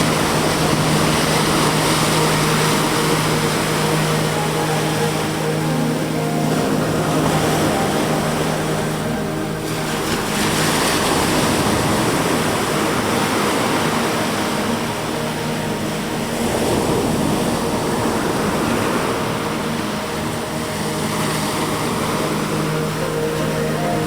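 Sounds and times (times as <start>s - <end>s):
ambient music with low notes: 0.0s - 24.0s
ocean waves washing onto beach: 0.0s - 24.0s.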